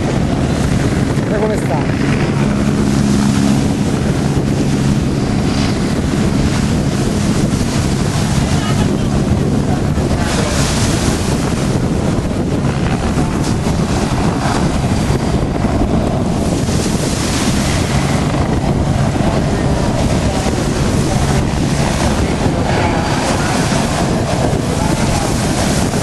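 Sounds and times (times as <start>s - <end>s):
faint low drone: 0.0s - 26.0s
wind buffeting microphone: 0.0s - 26.0s.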